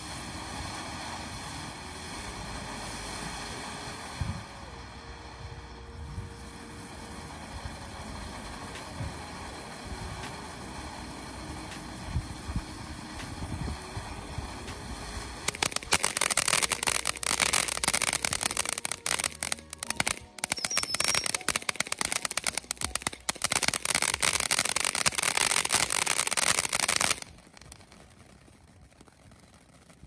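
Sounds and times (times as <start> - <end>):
firework fountain crackling: 0.0 - 30.0.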